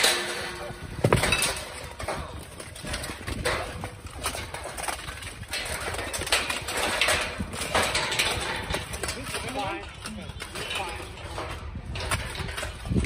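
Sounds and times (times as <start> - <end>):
steel weapons clanking on armor: 0.0 - 13.0.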